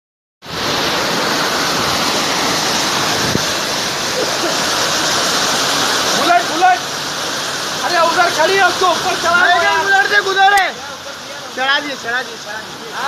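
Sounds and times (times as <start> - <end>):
heavy rain: 0.4 - 13.0
running water: 0.4 - 13.0.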